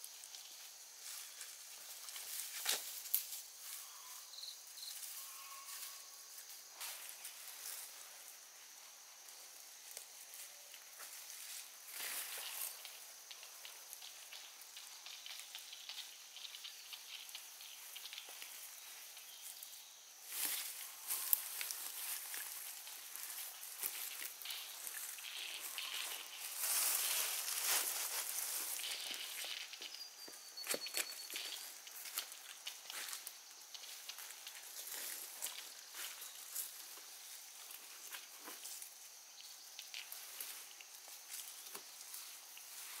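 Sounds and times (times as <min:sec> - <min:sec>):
plants rustling and crackling: 0:00.0 - 0:43.0.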